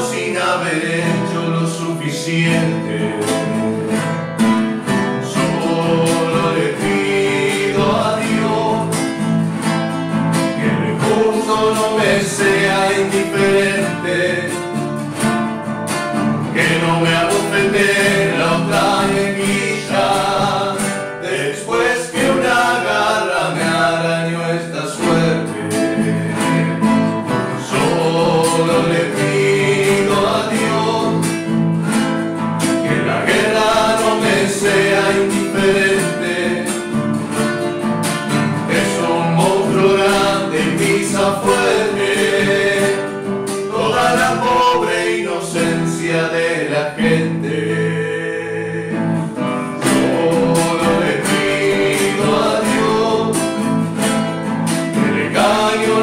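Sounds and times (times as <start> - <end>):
men singing folk song: 0.0 - 15.4, 16.2 - 56.0
classical guitars: 0.0 - 56.0.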